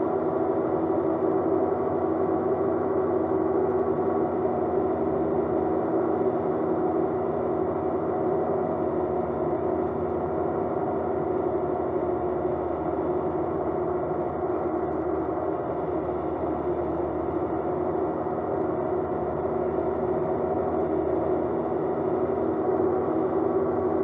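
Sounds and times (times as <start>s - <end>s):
light aircraft engine droning: 0.0s - 24.0s.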